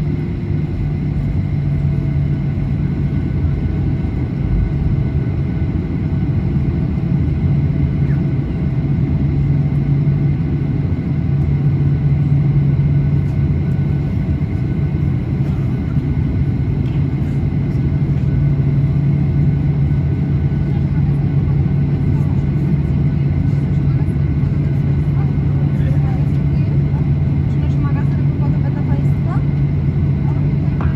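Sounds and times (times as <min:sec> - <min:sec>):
airplane cabin drone: 0:00.0 - 0:30.9.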